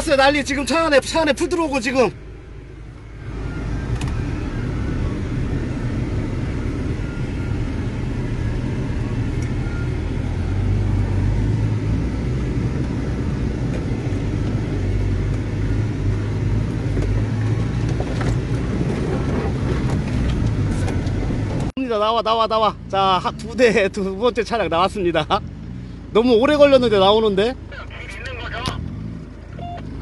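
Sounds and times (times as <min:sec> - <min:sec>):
engine rumbling under load: 0:00.0 - 0:30.0.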